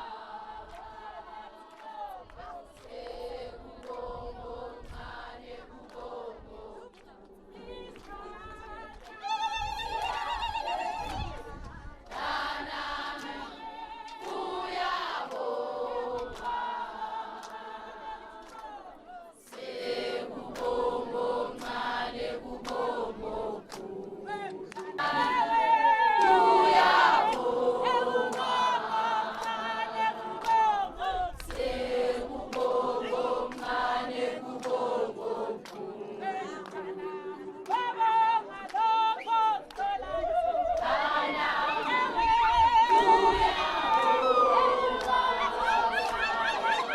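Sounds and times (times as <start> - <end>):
choir singing: 0.0 - 46.9.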